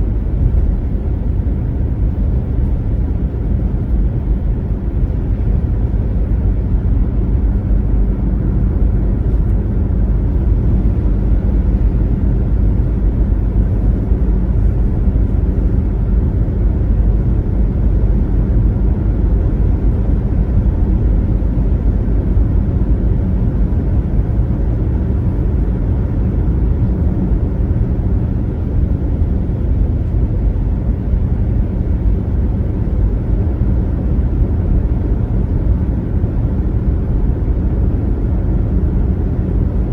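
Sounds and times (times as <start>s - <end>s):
car tyres rumbling on road: 0.0s - 39.9s.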